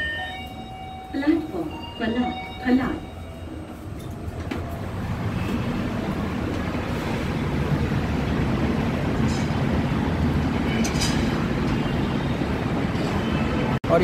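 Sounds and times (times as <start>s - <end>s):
train rumbling on elevated track: 0.0s - 14.0s.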